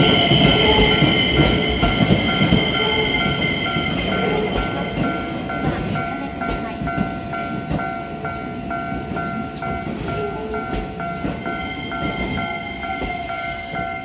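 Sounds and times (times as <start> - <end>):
level crossing warning bell: 0.0 - 14.0
train rumbling over crossing: 0.0 - 14.0
train wheel clacks: 0.0 - 14.0.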